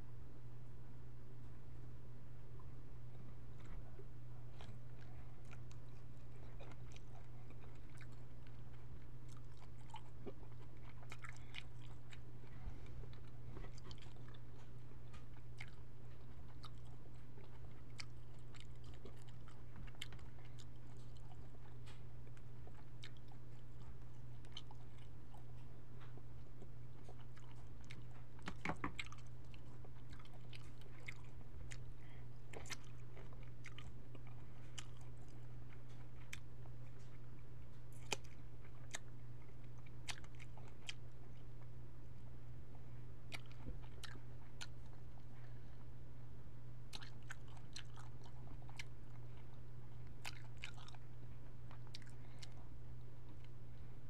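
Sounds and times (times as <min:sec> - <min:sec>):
steady low hum: 0:00.0 - 0:54.0
shrimp being chewed: 0:03.5 - 0:41.7, 0:43.3 - 0:45.6, 0:46.9 - 0:52.7.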